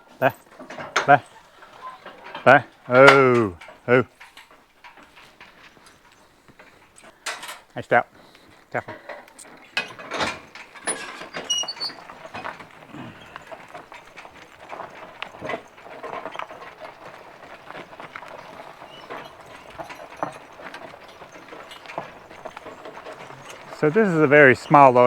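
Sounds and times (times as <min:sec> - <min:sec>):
harness and wagon clinking: 0:00.0 - 0:25.0
horse hooves clopping: 0:00.0 - 0:25.0.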